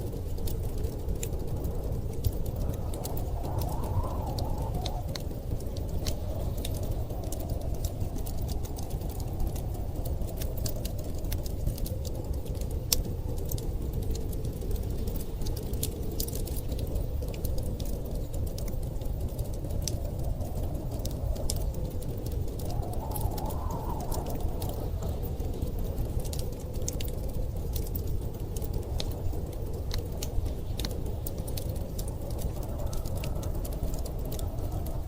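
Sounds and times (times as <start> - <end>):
storm wind rumble: 0.0 - 35.0
wood fire crackling: 0.0 - 35.0.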